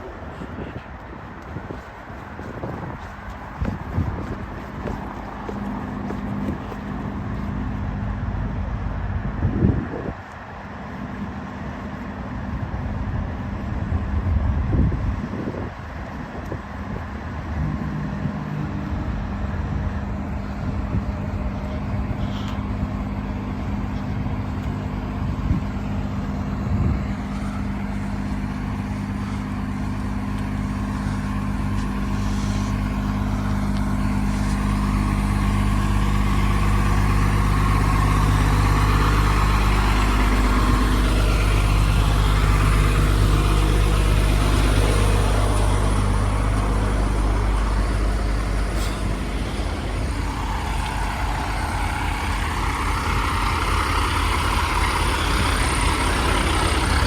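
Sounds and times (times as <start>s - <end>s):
large vehicle engine humming: 0.0s - 57.0s.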